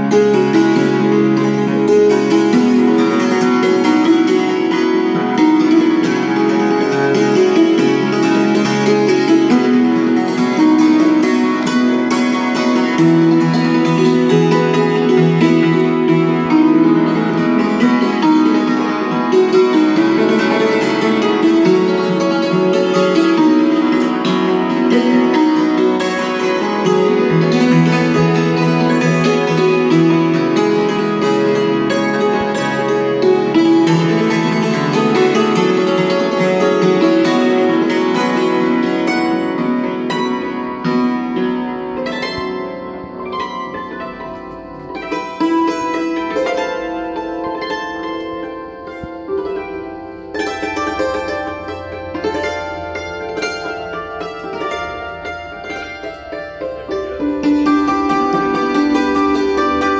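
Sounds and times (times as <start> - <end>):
hammered dulcimer: 0.0 - 59.9.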